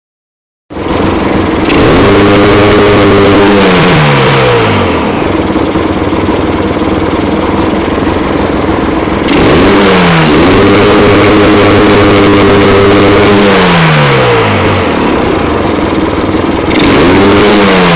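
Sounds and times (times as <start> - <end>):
vehicle engine revving and idling: 0.7 - 17.9.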